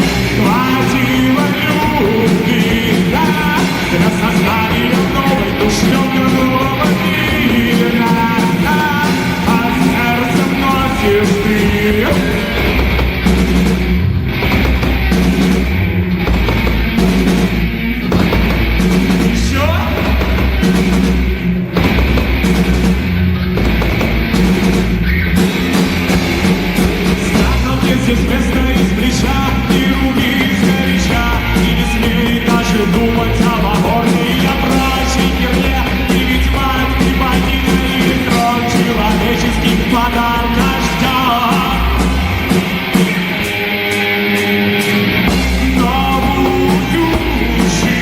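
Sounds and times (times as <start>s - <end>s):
bass guitar: 0.0s - 48.0s
drums: 0.0s - 48.0s
rock band playing live: 0.0s - 48.0s.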